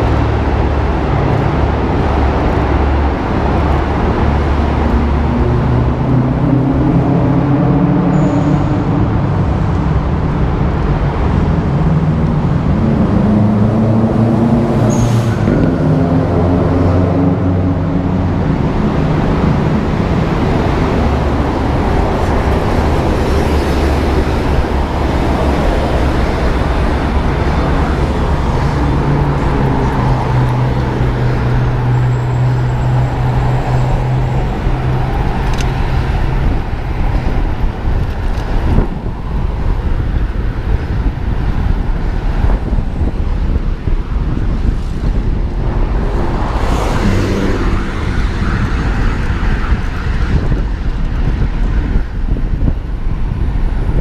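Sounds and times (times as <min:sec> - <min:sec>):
rumble of passing vehicles: 0:00.0 - 0:54.0.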